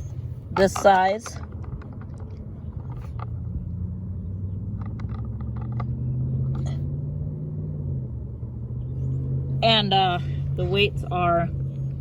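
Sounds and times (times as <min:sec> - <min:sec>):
low engine-like rumble: 0:00.0 - 0:12.0.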